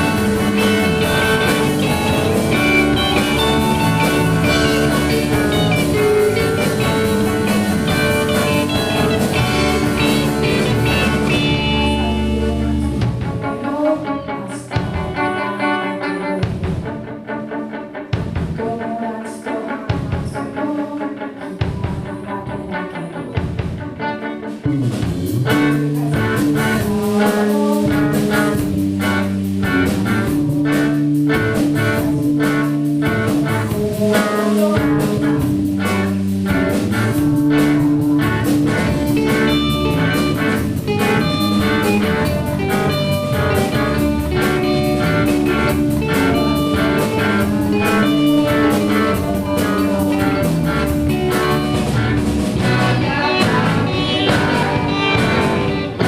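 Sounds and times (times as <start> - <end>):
band with guitar and drums: 0.0 - 56.0.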